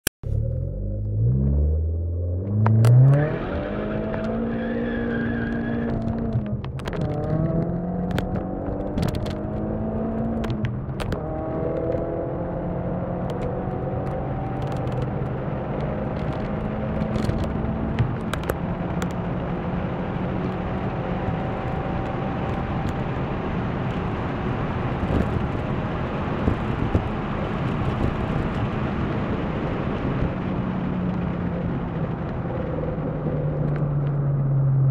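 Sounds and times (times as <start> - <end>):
car engine accelerating hard: 0.2 - 34.9.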